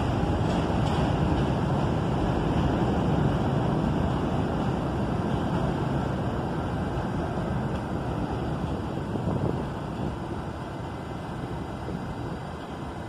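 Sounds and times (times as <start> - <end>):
elevated train rumble: 0.0 - 13.0.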